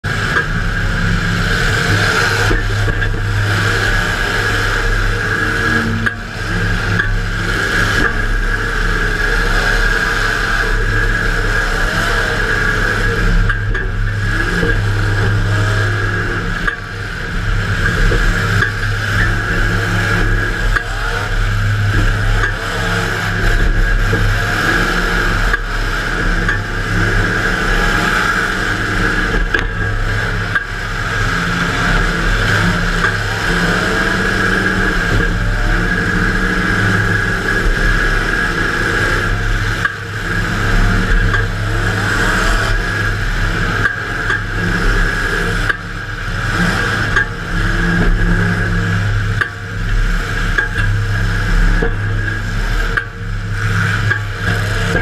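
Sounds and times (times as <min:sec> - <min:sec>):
car engine revving loudly: 0:00.0 - 0:55.0.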